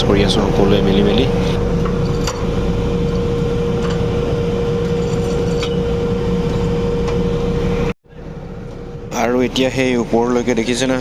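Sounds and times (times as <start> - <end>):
drilling rig machinery hum: 0.0 - 11.0.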